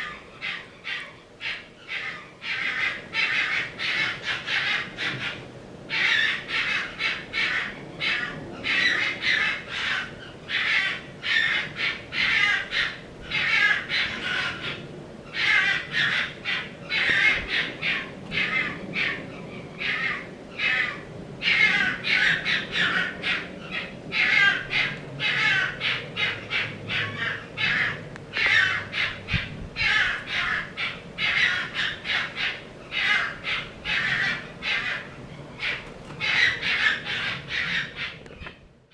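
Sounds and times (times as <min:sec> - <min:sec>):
harsh squawking calls: 0:00.0 - 0:38.7.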